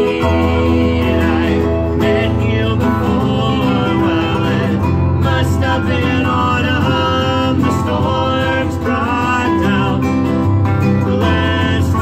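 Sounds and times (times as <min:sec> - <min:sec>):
harp and acoustic guitar playing: 0:00.0 - 0:12.0
low bass line: 0:00.0 - 0:12.0.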